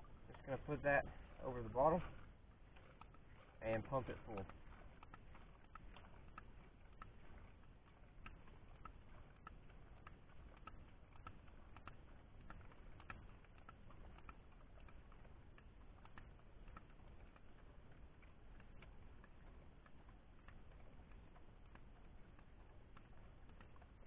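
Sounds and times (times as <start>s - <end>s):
hand water filter pump clicking: 0.0s - 24.0s.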